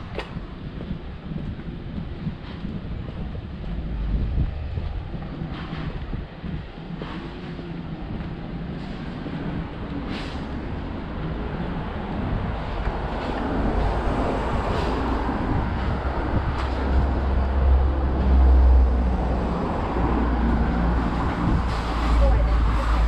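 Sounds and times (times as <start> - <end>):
deep engine rumble: 0.0 - 23.0
cars driving past: 3.8 - 23.0.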